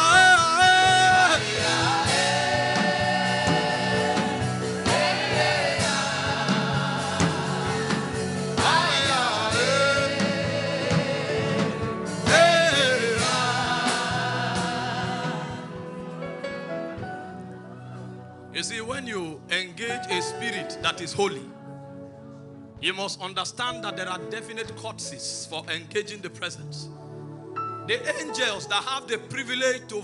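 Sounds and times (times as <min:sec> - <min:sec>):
instrumental backing: 0:00.0 - 0:30.0.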